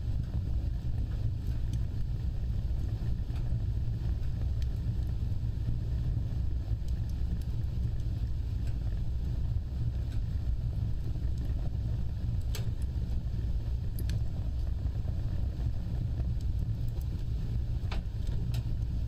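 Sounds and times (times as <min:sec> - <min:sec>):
fire flames roaring: 0:00.0 - 0:19.0
wood crackles: 0:00.0 - 0:19.0.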